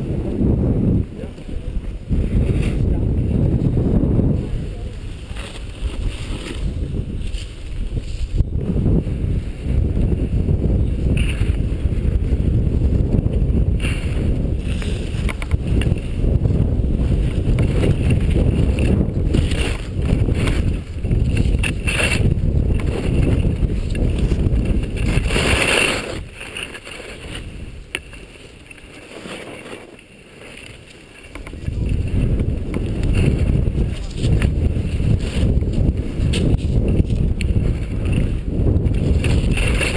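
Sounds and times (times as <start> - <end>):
wind buffeting microphone: 0.0 - 29.3, 30.8 - 39.9
ski edges scraping snow: 0.1 - 39.9.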